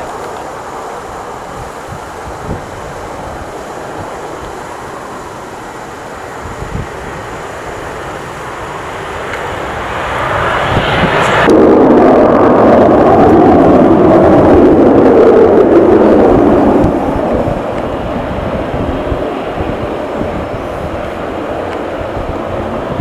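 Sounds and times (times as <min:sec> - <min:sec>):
jet engines roaring past: 0:00.0 - 0:23.0.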